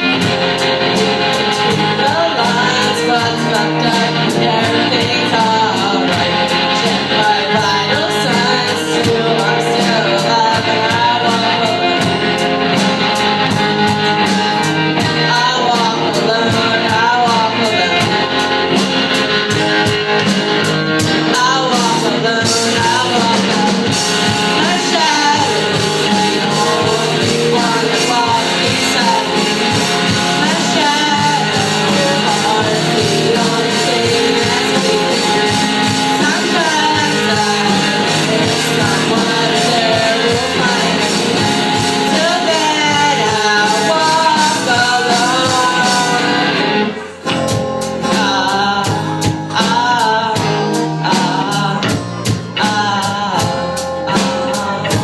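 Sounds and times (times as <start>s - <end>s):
drum kit hi-hat beat: 0.0s - 55.0s
electric guitars: 0.0s - 55.0s
person singing: 0.0s - 55.0s.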